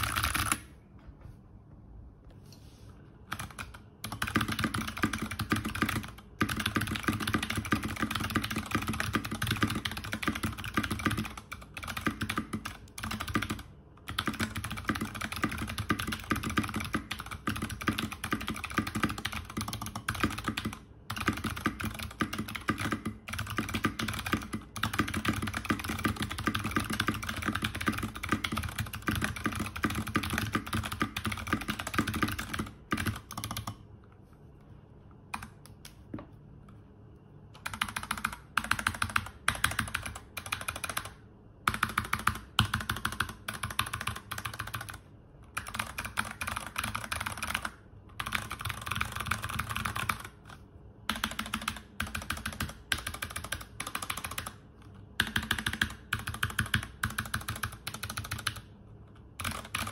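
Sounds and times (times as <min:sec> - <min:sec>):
fast mechanical keyboard typing: 0:00.0 - 0:00.8, 0:03.2 - 0:33.8, 0:35.3 - 0:36.0, 0:37.5 - 0:59.9.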